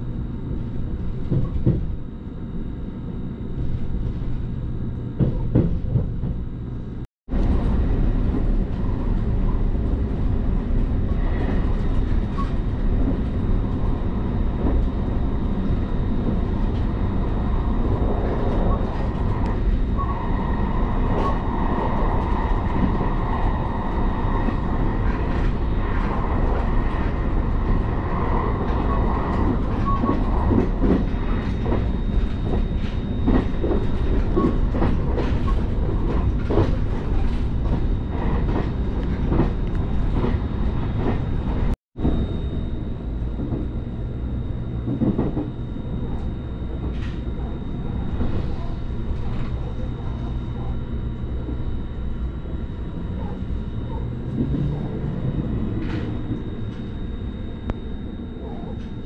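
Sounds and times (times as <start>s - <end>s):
train interior rumble: 0.0s - 59.0s
high whine: 6.6s - 59.0s.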